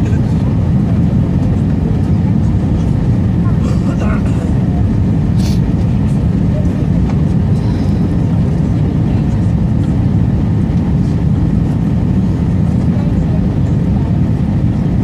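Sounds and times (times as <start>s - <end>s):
airplane cabin roar: 0.0s - 15.0s.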